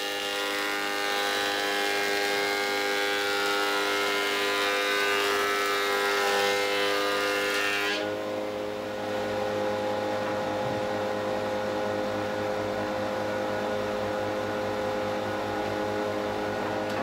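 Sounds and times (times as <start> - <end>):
planer motor hum: 0.0 - 17.0.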